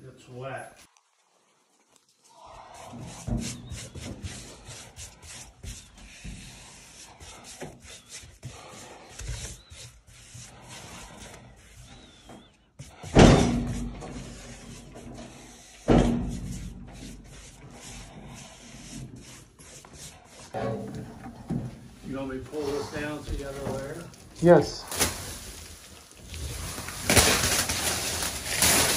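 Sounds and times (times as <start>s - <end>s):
brush rubbing over plaster: 0.8s - 28.9s.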